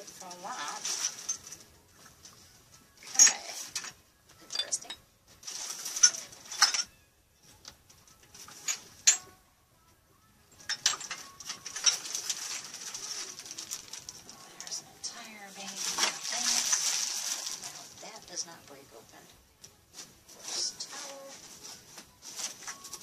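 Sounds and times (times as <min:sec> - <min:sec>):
bags and packaging crinkling: 0:00.0 - 0:04.0, 0:05.3 - 0:09.2, 0:10.6 - 0:18.7, 0:19.6 - 0:23.0.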